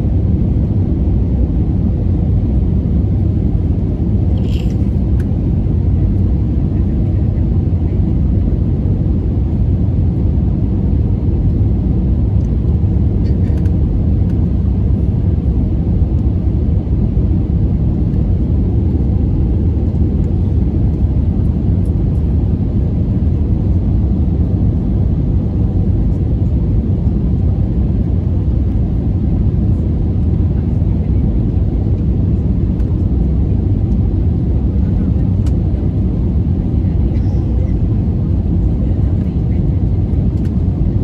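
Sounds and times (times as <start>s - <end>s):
jet engine and airflow rumble: 0.0s - 41.0s.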